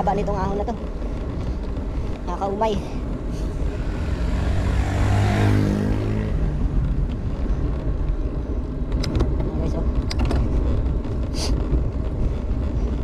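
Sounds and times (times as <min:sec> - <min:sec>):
motor vehicle passing: 0:00.0 - 0:13.0
steady low rumble: 0:00.0 - 0:13.0.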